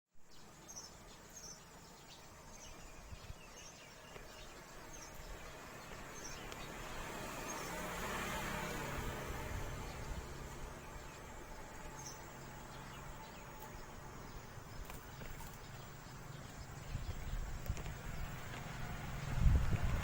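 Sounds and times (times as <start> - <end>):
insects chirping: 0.2 - 20.0.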